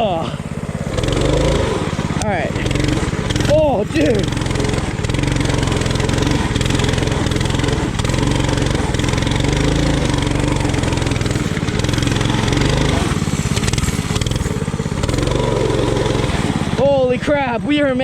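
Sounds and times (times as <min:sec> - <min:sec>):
bike pushing through mud and water: 0:00.0 - 0:18.0
mini bike engine running hard: 0:00.0 - 0:18.0.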